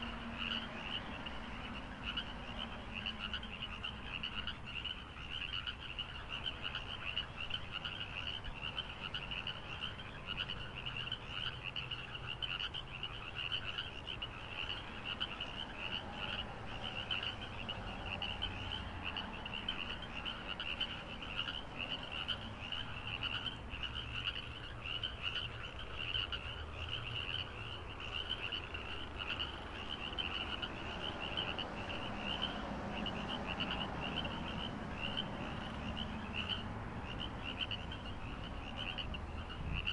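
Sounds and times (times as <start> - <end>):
animals calling in pulsing trill: 0.0 - 39.9.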